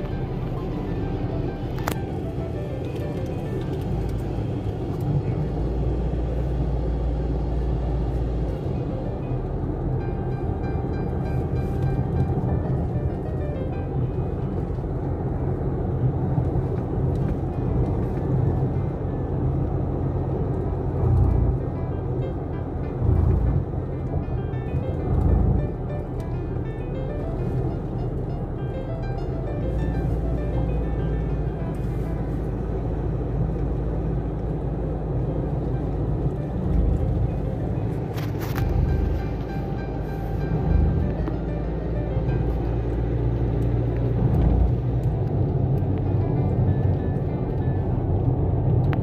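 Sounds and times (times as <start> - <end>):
car driving at road speed: 0.0 - 49.0
tyre and engine noise: 0.0 - 49.0.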